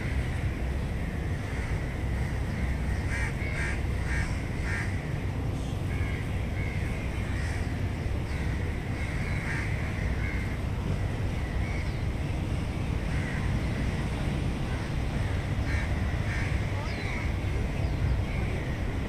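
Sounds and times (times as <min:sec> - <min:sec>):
birds calling: 0:00.0 - 0:19.0
low rumble of city ambience: 0:00.0 - 0:19.0.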